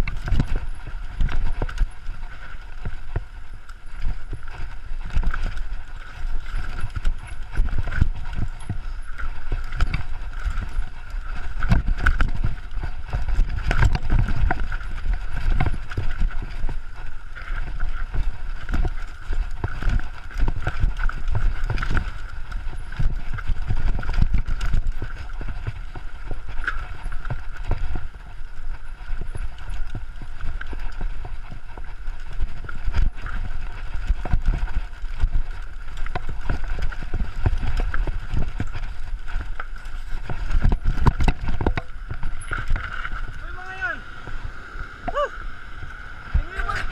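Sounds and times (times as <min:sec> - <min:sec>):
mountain bike rattling over rocks: 0:00.0 - 0:46.9.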